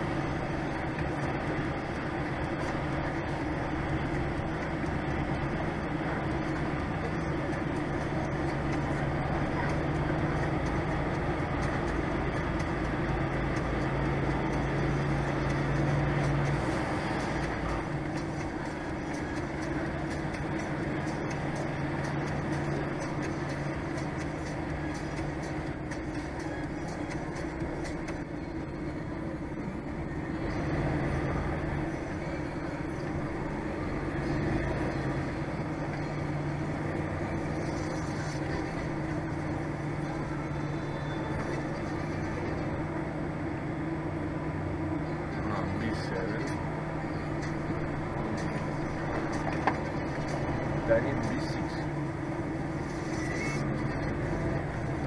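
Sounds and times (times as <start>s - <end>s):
road noise: 0.0s - 55.0s
truck diesel engine humming: 0.0s - 55.0s.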